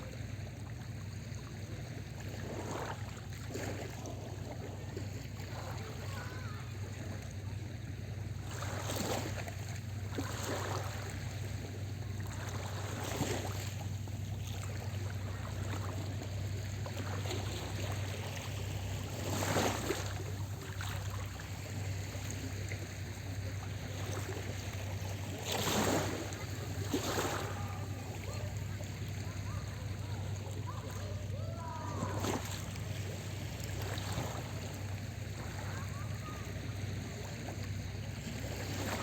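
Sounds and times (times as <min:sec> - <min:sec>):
small waves washing onto shore: 0:00.0 - 0:39.0
steady low hum: 0:00.0 - 0:39.0.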